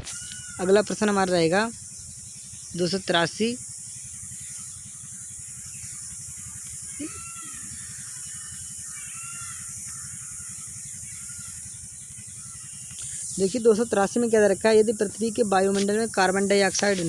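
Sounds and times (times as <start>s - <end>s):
background hiss and low hum: 0.0s - 17.0s
bird cawing: 0.0s - 17.0s.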